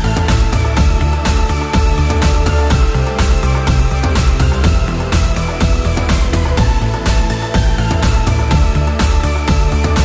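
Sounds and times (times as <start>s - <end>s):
electronic music with driving beat: 0.0s - 10.0s.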